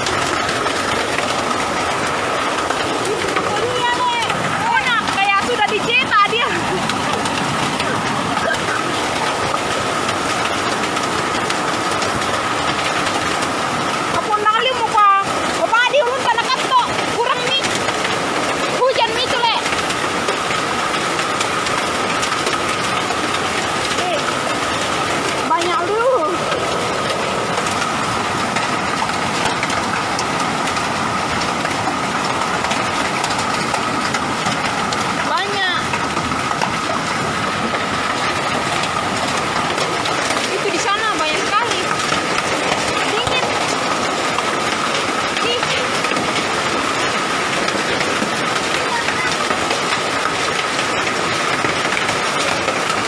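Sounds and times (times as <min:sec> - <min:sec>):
hailstones ticking: 0:00.0 - 0:53.0
heavy rain rushing: 0:00.0 - 0:53.0.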